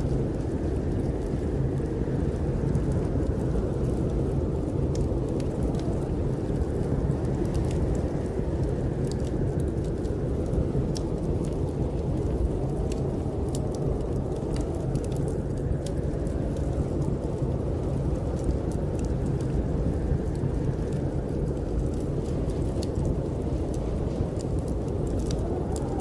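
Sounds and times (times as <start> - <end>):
wind blowing: 0.0 - 26.0
wood fire crackling: 0.0 - 26.0.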